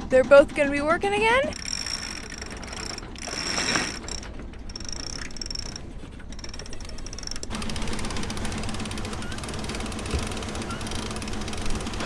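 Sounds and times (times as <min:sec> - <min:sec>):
winch ratcheting buzz: 0:00.4 - 0:12.0.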